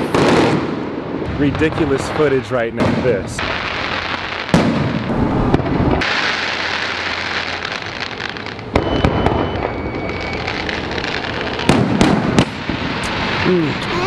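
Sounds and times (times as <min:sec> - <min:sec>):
loud firework bangs: 0:00.0 - 0:13.8
fireworks crackling: 0:00.0 - 0:14.0.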